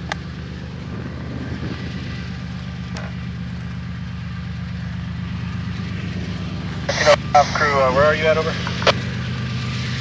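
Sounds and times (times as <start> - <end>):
diesel locomotive engine drone: 0.0 - 10.0.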